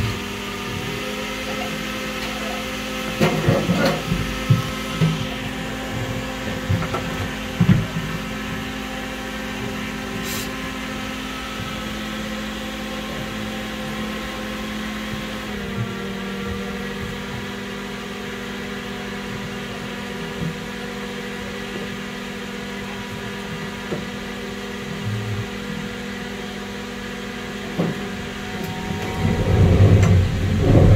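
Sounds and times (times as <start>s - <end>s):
radial aircraft engine running: 0.0s - 30.9s.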